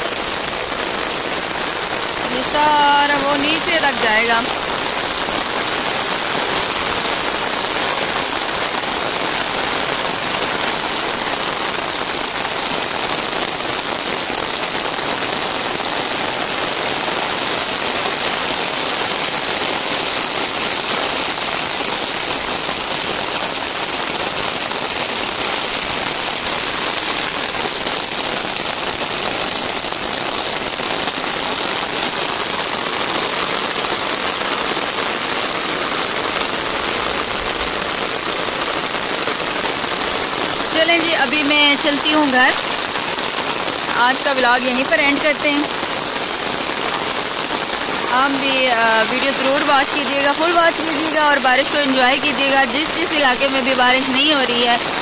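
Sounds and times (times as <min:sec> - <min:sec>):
rain on wet ground and water: 0:00.0 - 0:55.0.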